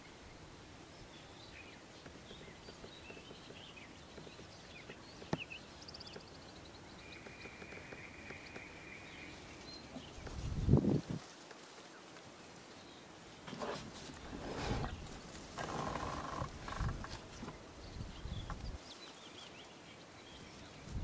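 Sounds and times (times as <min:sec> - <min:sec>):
small birds chirping: 0:00.0 - 0:11.0, 0:11.8 - 0:21.0.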